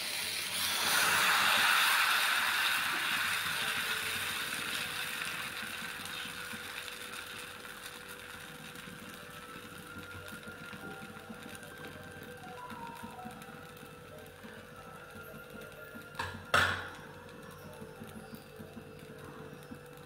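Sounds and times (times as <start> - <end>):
batter sizzling on a hot pan: 0.0 - 20.0.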